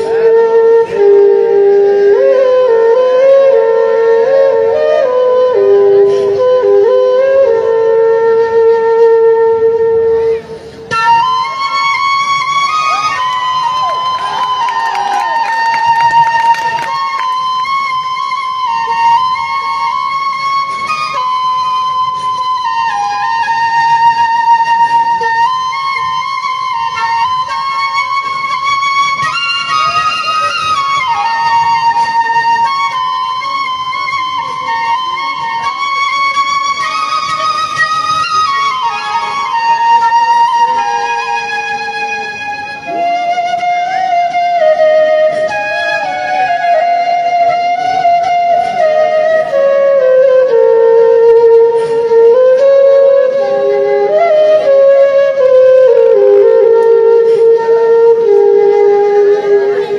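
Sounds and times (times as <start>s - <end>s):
flute melody: 0.0s - 59.9s.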